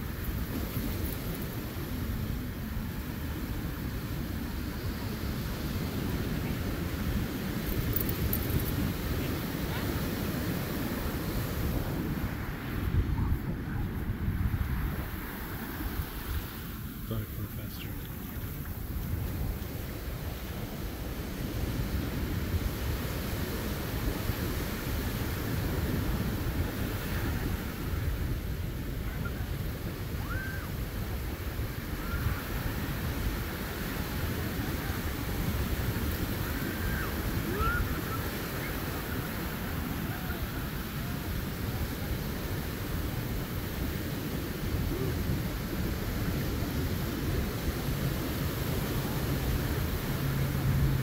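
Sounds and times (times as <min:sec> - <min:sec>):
ocean surf breaking: 0:00.0 - 0:51.0
wind buffeting microphone: 0:00.0 - 0:51.0.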